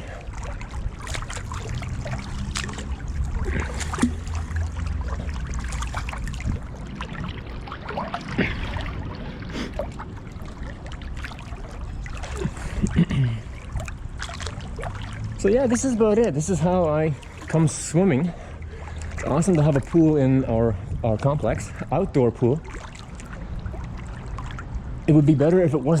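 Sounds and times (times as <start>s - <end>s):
pool water splashing: 0.0s - 26.0s
steady low rumble: 0.0s - 26.0s.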